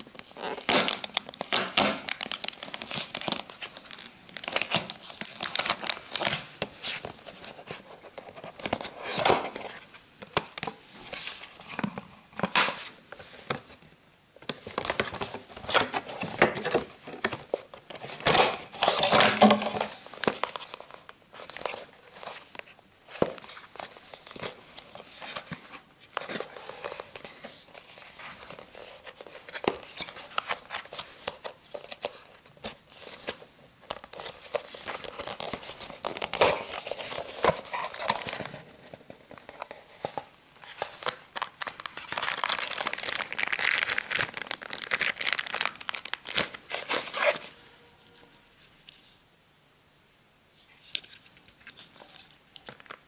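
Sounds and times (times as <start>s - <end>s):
cardboard and plastic crinkling: 0.0s - 13.8s, 14.4s - 48.2s.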